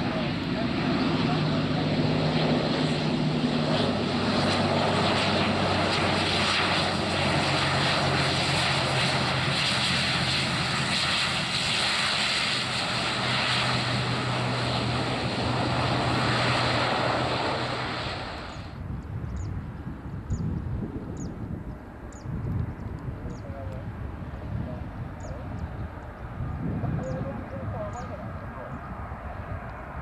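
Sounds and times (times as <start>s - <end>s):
propellers humming: 0.0s - 20.0s, 21.0s - 30.0s
turboprop engines running: 0.0s - 30.0s.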